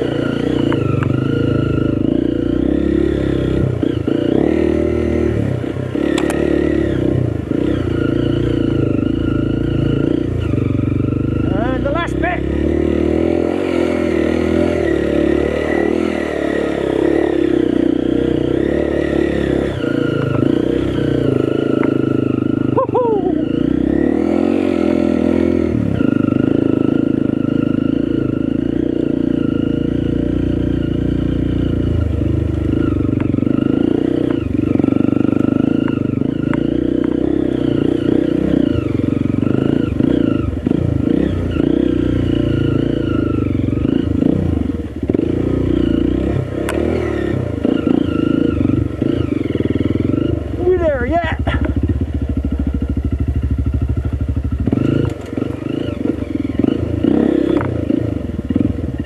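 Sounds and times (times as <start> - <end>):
trail bike engine pulling uphill: 0.0 - 59.0.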